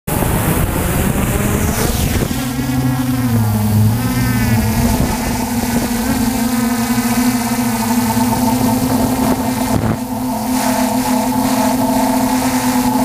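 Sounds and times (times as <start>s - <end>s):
drone propellers buzzing: 0.1s - 13.0s.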